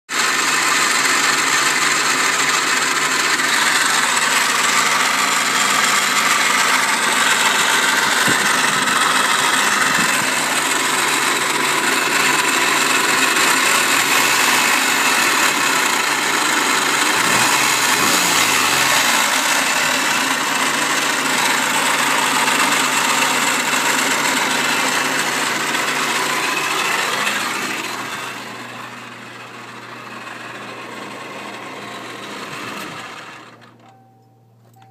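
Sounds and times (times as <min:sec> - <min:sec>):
car engine running: 0:00.1 - 0:34.9
loud steady bearing noise: 0:00.2 - 0:33.7.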